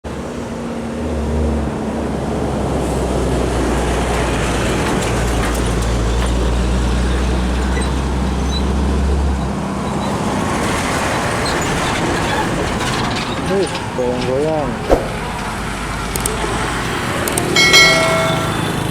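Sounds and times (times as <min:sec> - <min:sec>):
traffic and tyre noise: 0:00.0 - 0:18.9
heavy truck engine droning: 0:00.1 - 0:18.9.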